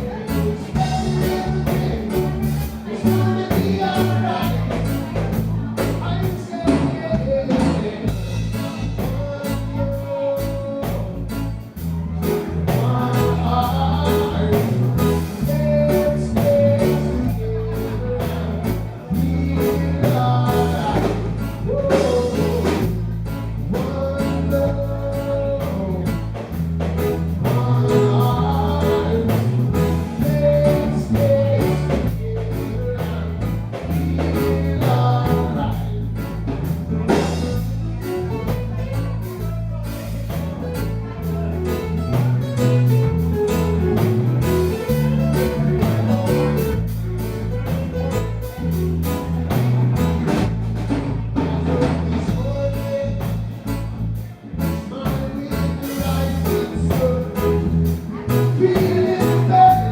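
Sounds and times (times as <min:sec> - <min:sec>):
person singing: 0:00.0 - 0:50.2, 0:51.0 - 0:59.9
live reggae band: 0:00.0 - 0:59.9.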